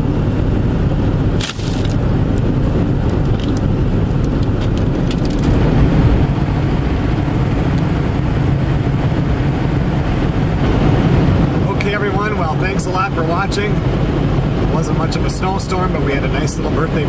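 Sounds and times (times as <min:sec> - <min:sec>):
car engine cruising: 0:00.0 - 0:17.0
tyres on the road: 0:00.0 - 0:17.0.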